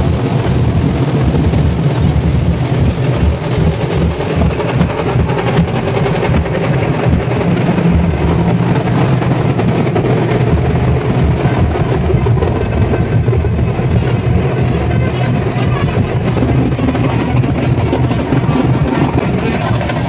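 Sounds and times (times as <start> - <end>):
crowd: 0.0 - 20.0
dense street drumming: 0.0 - 20.0.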